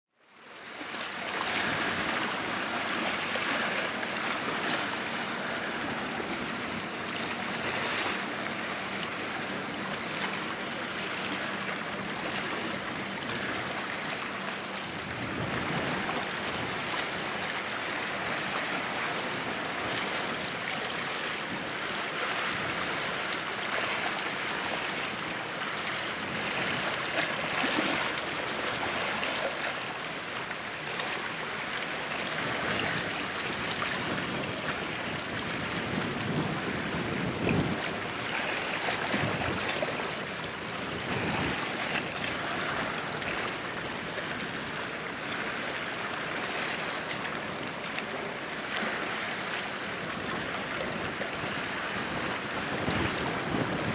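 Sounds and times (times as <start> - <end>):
wind: 0.0 - 53.9
water noise: 0.1 - 53.9.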